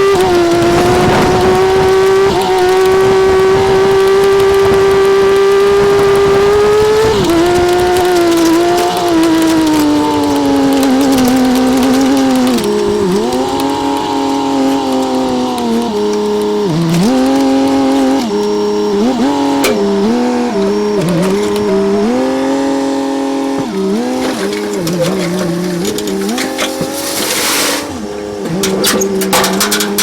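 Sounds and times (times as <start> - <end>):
diesel engine bogging under load: 5.8 - 30.0.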